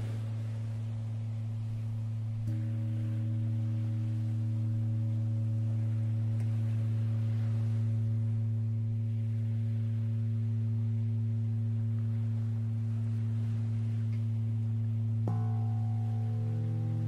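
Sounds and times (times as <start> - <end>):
higher sustained tones: 0.0 - 17.0
low drone tone: 0.0 - 17.0.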